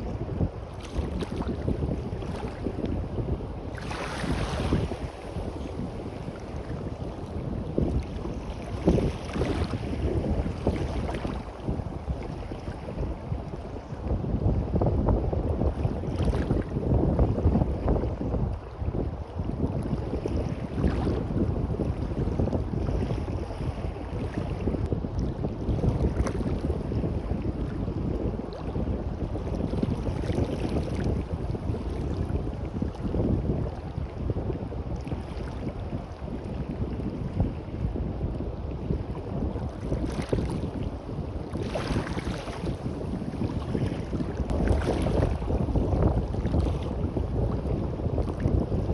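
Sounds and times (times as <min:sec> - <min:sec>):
waves washing on beach: 0:00.0 - 0:48.9
wind buffeting microphone: 0:00.0 - 0:48.9.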